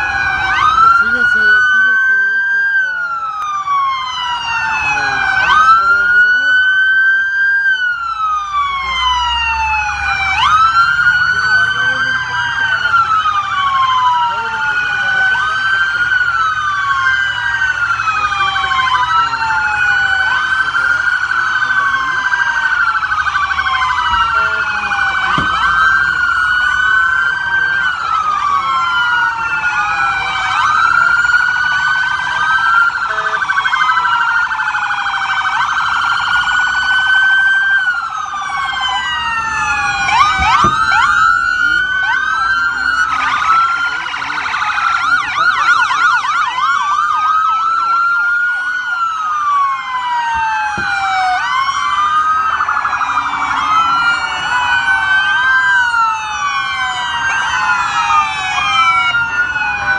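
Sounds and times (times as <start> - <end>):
wailing sirens: 0.0 - 59.9
warbling siren: 0.0 - 59.9.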